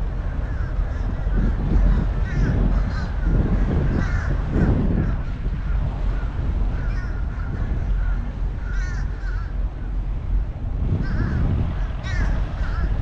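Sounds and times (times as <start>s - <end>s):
steady low rumble: 0.0s - 13.0s
birds calling: 0.1s - 10.0s, 10.9s - 13.0s.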